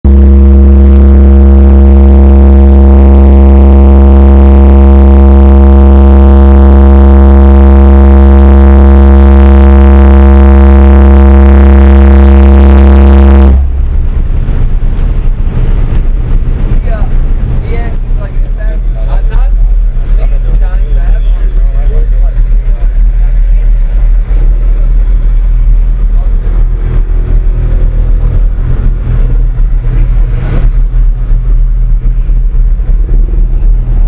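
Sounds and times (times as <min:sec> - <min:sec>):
deep subwoofer bass tone: 0:00.0 - 0:34.0.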